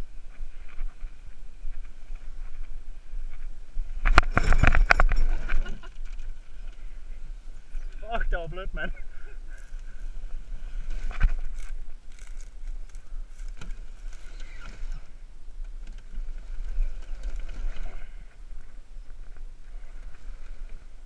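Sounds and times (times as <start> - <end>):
camera rumble and rustling: 0.0 - 21.0.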